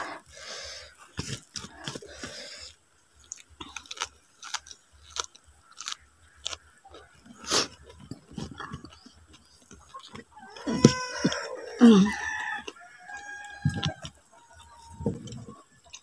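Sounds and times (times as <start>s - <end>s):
wet chewing and lip-smacking: 1.0s - 16.0s.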